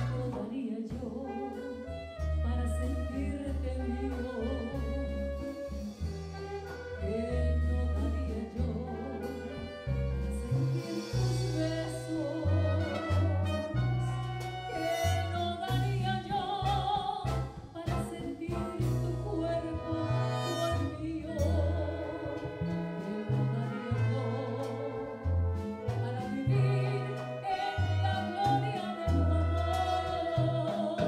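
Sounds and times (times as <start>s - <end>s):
horn chords: 0.0s - 0.6s, 1.2s - 31.0s
woman singing with vibrato: 0.0s - 6.0s, 7.0s - 31.0s
bass notes: 0.0s - 31.0s
piano: 0.0s - 31.0s.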